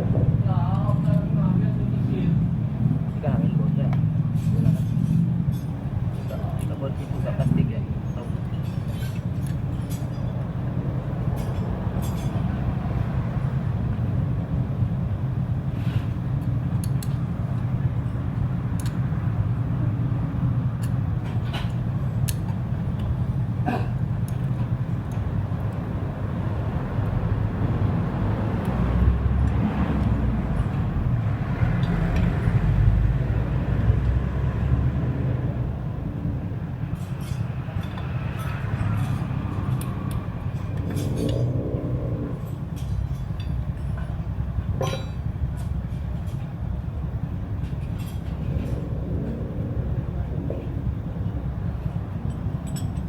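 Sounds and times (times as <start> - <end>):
low mechanical rumble: 0.0 - 53.0.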